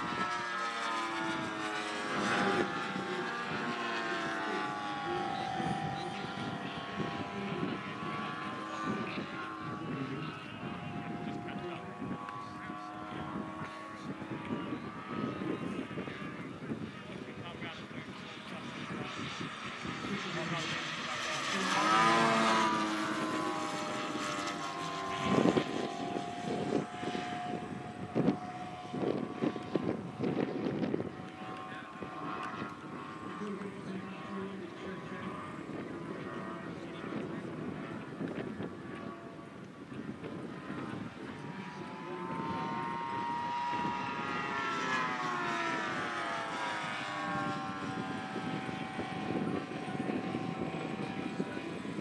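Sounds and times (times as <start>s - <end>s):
model aeroplane engine drone: 0.0s - 52.0s.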